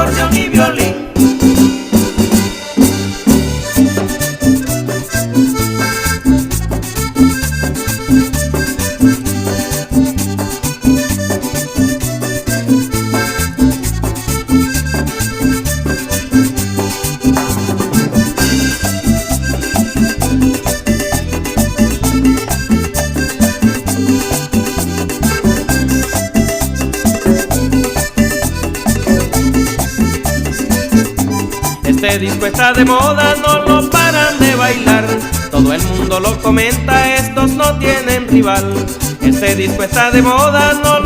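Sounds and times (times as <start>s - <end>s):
accordion melody: 0.0s - 41.0s
bouncing bass line: 0.0s - 41.0s
latin dance band music: 0.0s - 41.0s
percussion beat: 0.0s - 41.0s.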